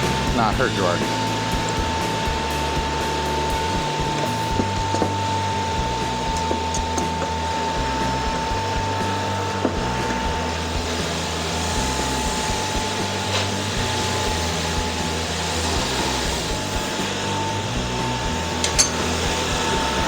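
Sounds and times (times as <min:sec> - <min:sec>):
background music with bass line: 0:00.0 - 0:20.0
electric motor whooshing hum: 0:00.0 - 0:20.0.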